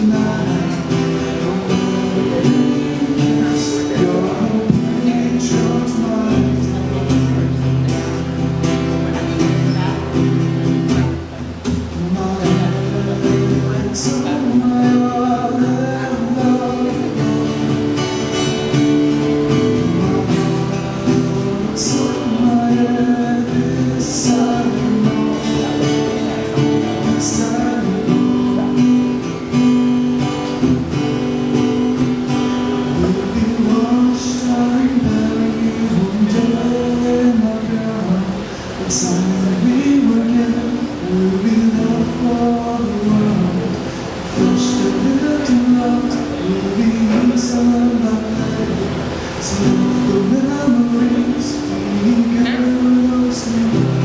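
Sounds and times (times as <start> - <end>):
man singing: 0.0 - 54.0
strummed acoustic guitar: 0.0 - 54.0.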